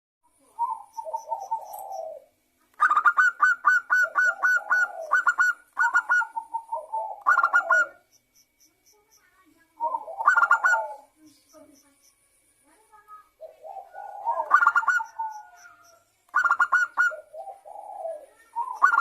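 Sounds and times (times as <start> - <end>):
dove singing: 0.4 - 19.0.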